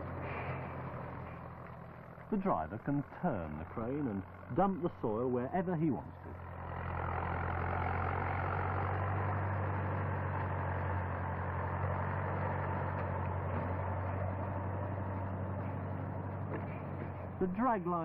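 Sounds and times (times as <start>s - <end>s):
crane engine droning: 0.0s - 18.0s.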